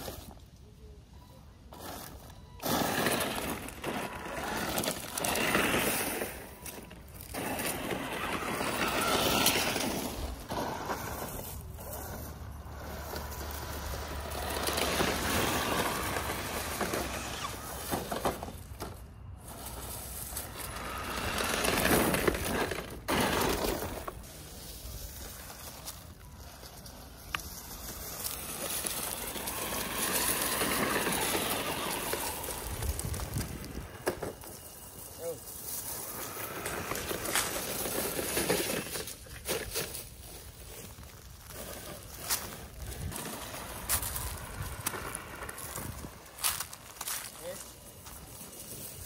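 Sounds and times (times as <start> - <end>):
rc car crunching over gravel: 0.0 - 49.0.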